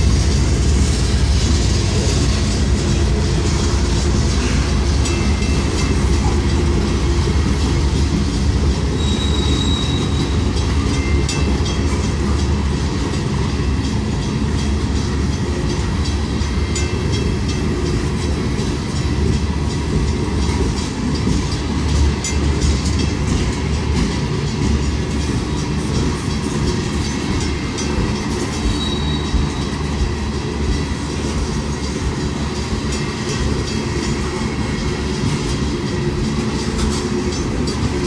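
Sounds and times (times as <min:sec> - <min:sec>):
freight train rumbling: 0:00.0 - 0:38.0
train wheels clacking over rail joints: 0:00.0 - 0:38.0.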